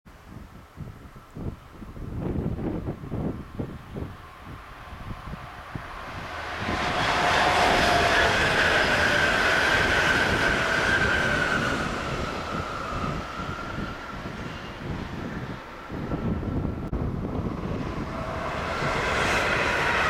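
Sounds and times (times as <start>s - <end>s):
train passing at speed: 0.8s - 20.0s.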